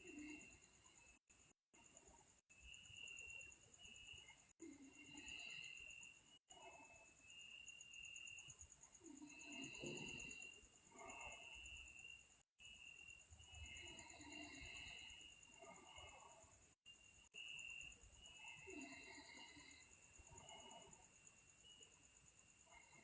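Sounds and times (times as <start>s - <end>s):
slow breathing of sleeping person: 0.0s - 21.6s.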